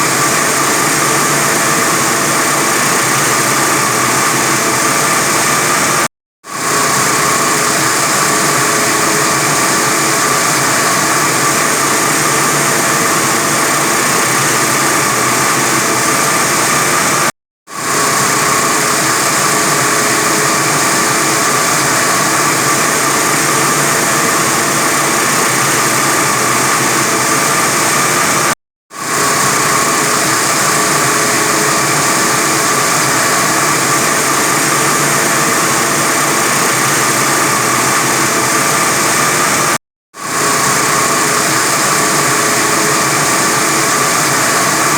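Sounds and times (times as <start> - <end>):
wire saw cutting concrete: 0.0 - 44.9.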